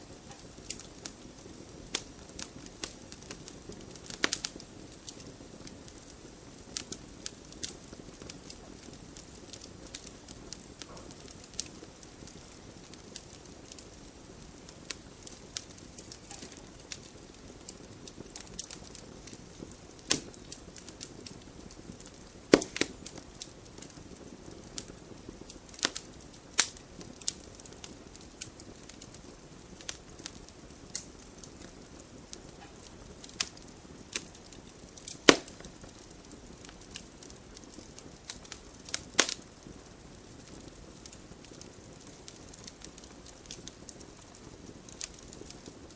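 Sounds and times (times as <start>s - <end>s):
fire crackling and popping: 0.0s - 45.9s
flames hissing: 0.0s - 45.9s.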